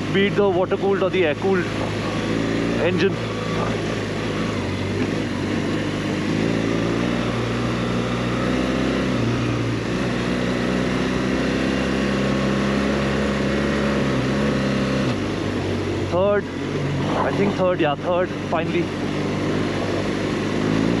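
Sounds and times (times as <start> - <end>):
motorcycle engine running: 0.0 - 21.0
wind and tyre noise: 0.0 - 21.0.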